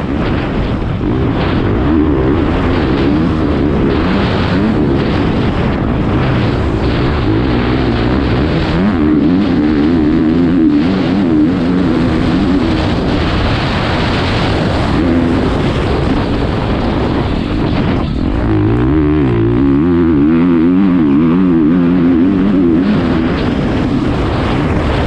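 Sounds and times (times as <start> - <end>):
motocross bike engine revving: 0.0 - 25.0.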